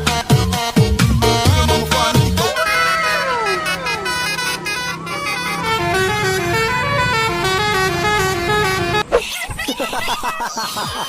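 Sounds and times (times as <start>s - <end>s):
bus horn playing a tune: 0.1s - 9.1s.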